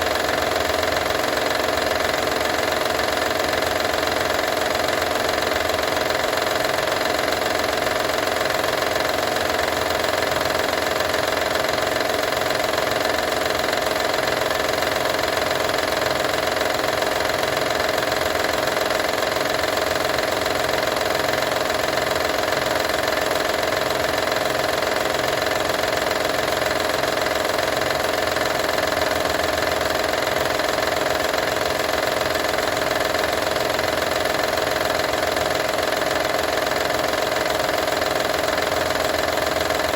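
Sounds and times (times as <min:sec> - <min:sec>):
engine rattle: 0:00.0 - 0:39.9.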